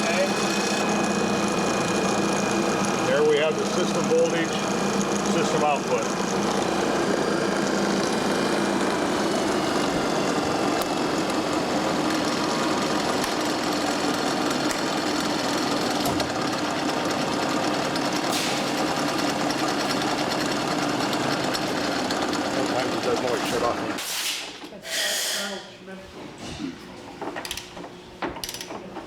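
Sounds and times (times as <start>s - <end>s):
generator whirring: 0.0s - 24.1s.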